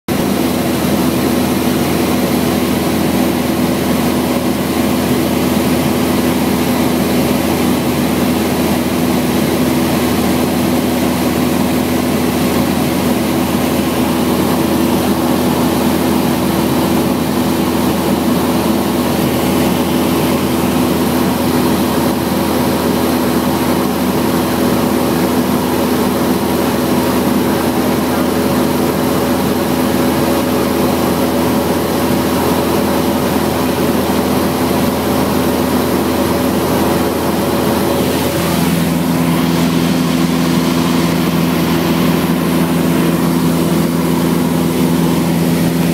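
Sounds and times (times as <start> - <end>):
propeller plane engine droning: 0.1 - 45.9.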